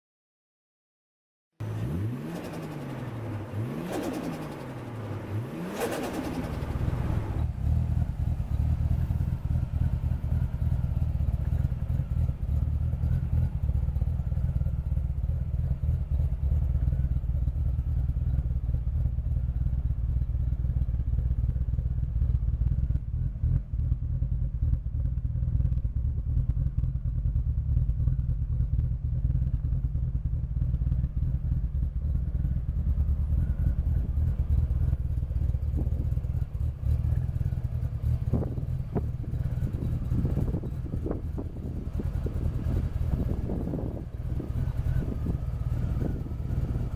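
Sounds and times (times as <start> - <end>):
car engine revving and idling: 1.6 - 46.9.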